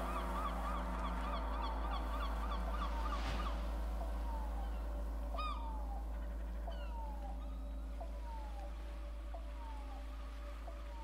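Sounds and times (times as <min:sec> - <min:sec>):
gulls calling: 0:00.0 - 0:11.0
steady low drone: 0:00.0 - 0:11.0.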